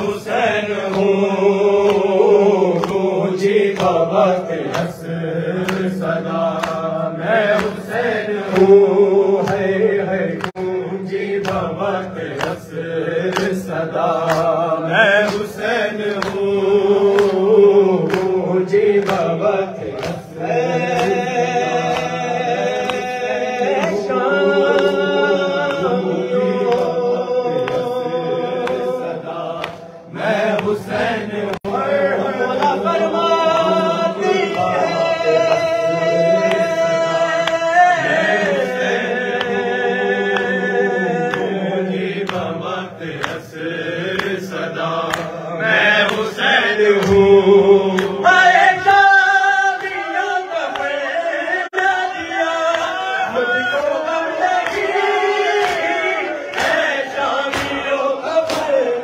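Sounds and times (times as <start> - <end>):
congregation voices joining in: 0.0 - 59.0
men chanting into microphones: 0.0 - 59.0.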